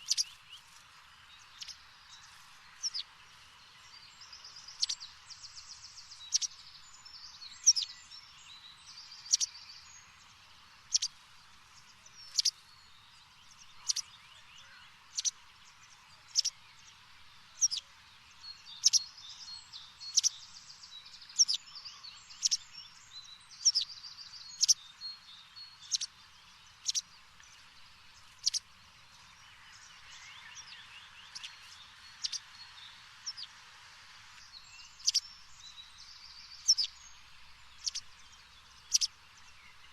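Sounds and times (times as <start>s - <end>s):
small bird chirping: 0.0s - 33.6s, 34.2s - 39.9s
faint hiss: 0.0s - 39.9s.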